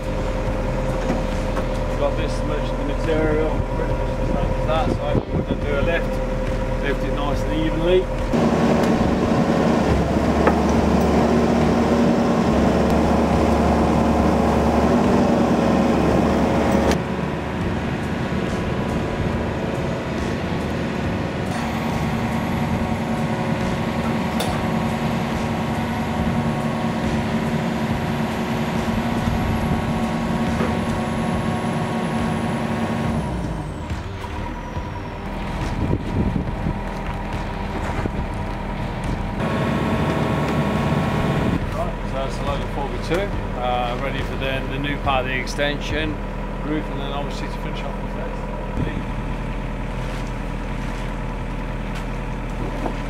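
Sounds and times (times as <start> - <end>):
diesel engine humming with whine: 0.0 - 53.0.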